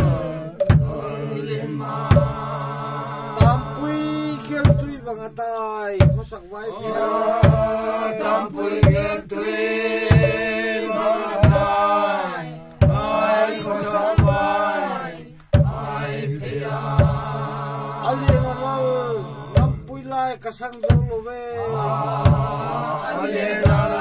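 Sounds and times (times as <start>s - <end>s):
drum strikes: 0.0s - 2.6s, 3.3s - 5.2s, 6.0s - 12.1s, 12.7s - 14.8s, 15.4s - 18.8s, 19.4s - 20.2s, 20.8s - 21.3s, 22.0s - 24.0s
group chanting in unison: 0.0s - 5.0s, 6.7s - 20.0s, 21.6s - 24.0s.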